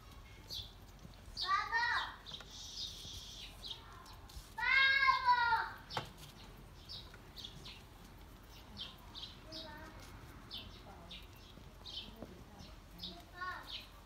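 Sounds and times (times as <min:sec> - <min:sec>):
small bird chirping: 0:00.0 - 0:14.0.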